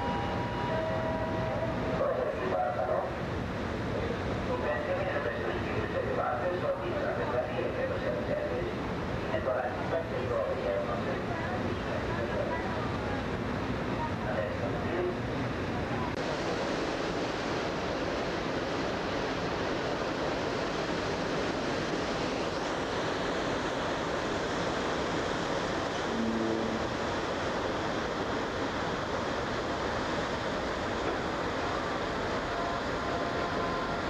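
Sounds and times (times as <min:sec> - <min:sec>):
rushing sea water: 0:00.0 - 0:34.0.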